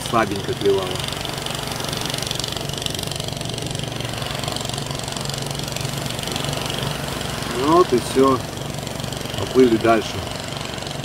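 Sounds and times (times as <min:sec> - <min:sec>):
outboard motor running: 0:00.0 - 0:11.0
steady high hiss: 0:00.0 - 0:11.0.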